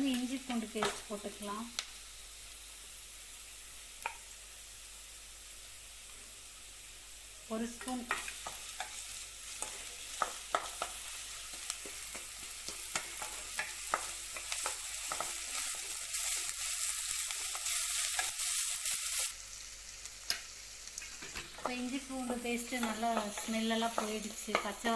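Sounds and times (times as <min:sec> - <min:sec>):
onion sizzling in oil: 0:00.0 - 0:24.9.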